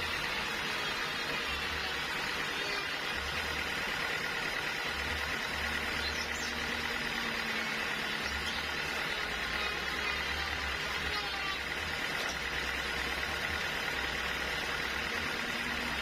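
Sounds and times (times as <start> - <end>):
sawmill machinery engine running: 0.0 - 16.0.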